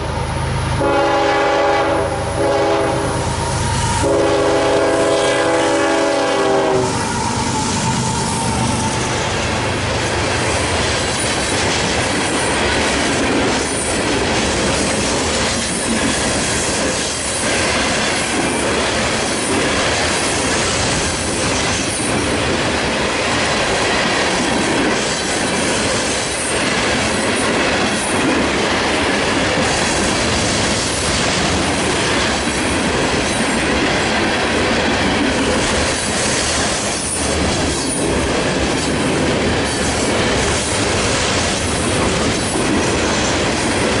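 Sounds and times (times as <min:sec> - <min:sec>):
freight train rolling past: 0:00.0 - 0:44.0.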